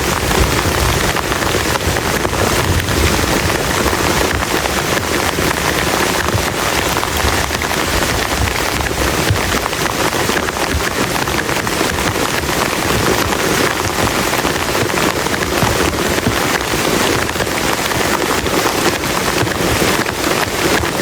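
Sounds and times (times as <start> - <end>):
heavy rain on a plastic tarp: 0.0 - 21.0.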